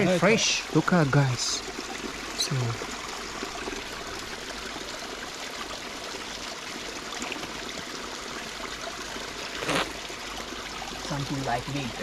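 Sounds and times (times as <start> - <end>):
spring water trickling: 0.0 - 12.0.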